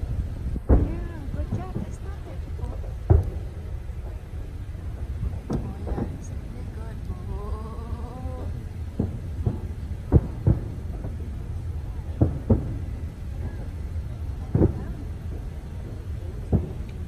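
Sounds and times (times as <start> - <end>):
fireworks shells booming: 0.0 - 17.0
steady low rumble: 0.0 - 17.0.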